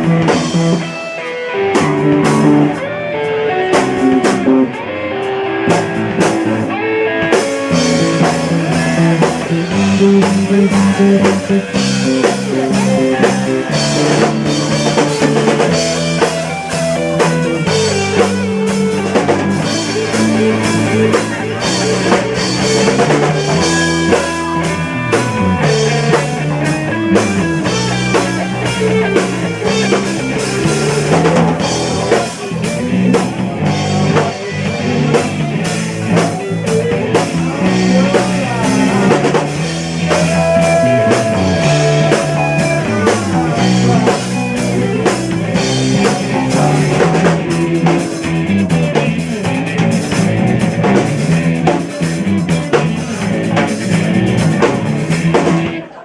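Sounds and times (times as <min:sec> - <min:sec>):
bass guitar: 0:00.0 - 0:56.0
drum kit beat: 0:00.0 - 0:56.0
electric guitar: 0:00.0 - 0:56.0.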